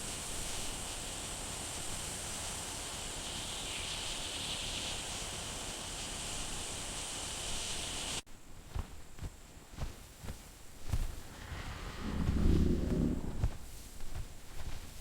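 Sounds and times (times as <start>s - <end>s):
outdoor ambient hiss: 0.0s - 15.0s.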